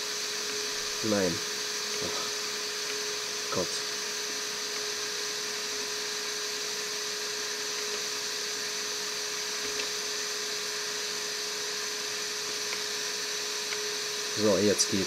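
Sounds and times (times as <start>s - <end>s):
hot air blower whining: 0.0s - 15.0s.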